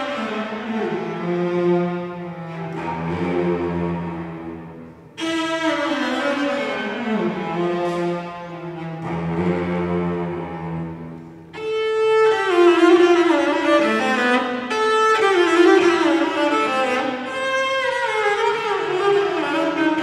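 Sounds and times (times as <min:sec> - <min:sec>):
violin slow melody: 0:00.0 - 0:20.0.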